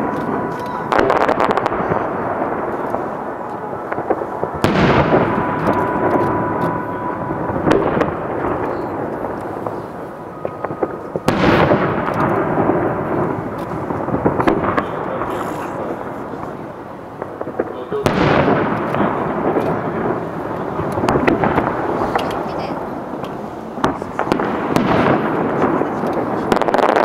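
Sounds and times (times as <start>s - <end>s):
crackling pops: 0.0s - 6.8s, 7.6s - 27.0s
fireworks shells booming: 0.0s - 27.0s
rolling echo: 0.0s - 27.0s.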